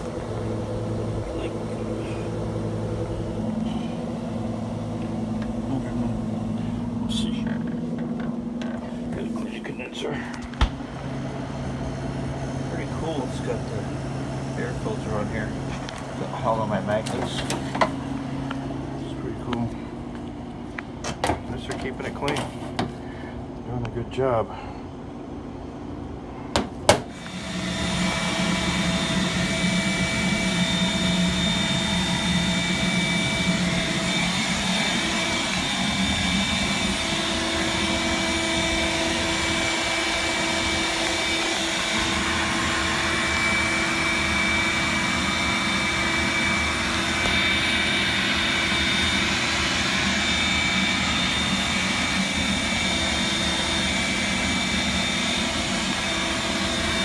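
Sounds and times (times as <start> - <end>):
vacuum blower rushing air: 0.0 - 20.4, 26.5 - 57.0.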